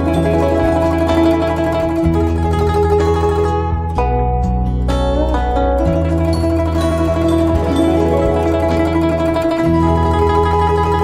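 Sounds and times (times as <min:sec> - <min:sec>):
instrumental music with held notes: 0:00.0 - 0:11.0
steady bass line: 0:00.0 - 0:11.0.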